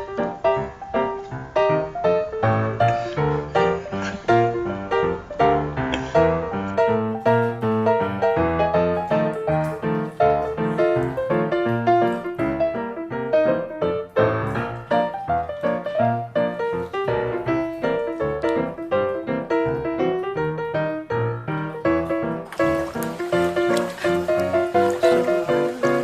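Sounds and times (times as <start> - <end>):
lively piano music: 0.0 - 26.0.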